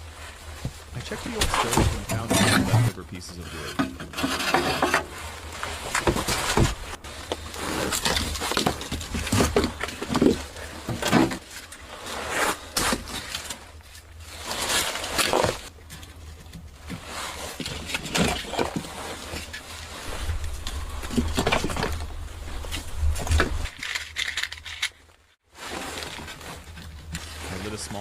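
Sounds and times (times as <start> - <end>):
firewood knocking and scraping: 0.5 - 24.8.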